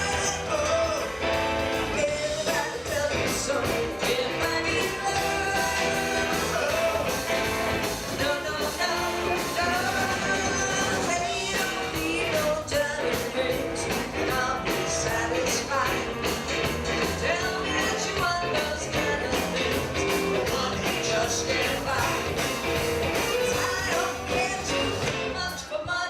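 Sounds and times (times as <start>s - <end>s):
person singing: 0.0s - 26.0s
rock and roll music: 0.0s - 26.0s.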